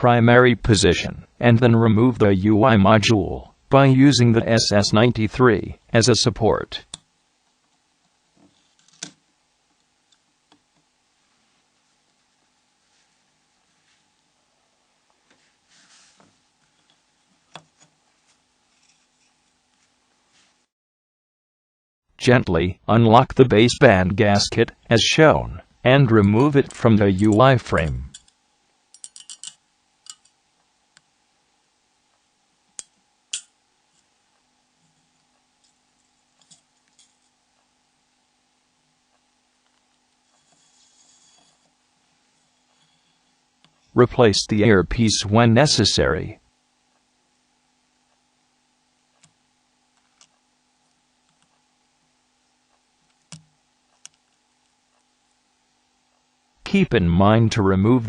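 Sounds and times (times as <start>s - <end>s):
faint steady hum: 0.0s - 20.7s, 22.2s - 58.0s.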